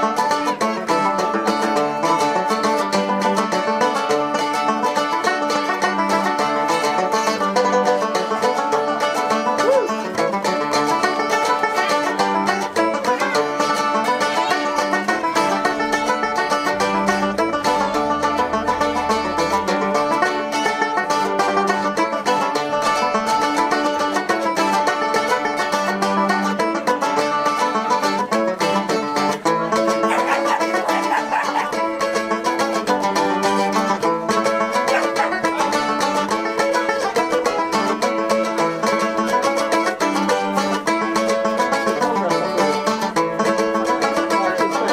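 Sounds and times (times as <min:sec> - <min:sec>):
plucked string music: 0:00.0 - 0:44.9.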